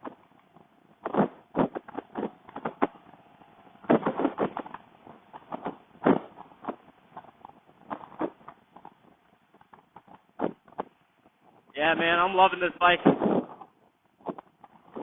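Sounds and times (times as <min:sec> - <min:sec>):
faint motorcycle engine: 0:00.0 - 0:15.0.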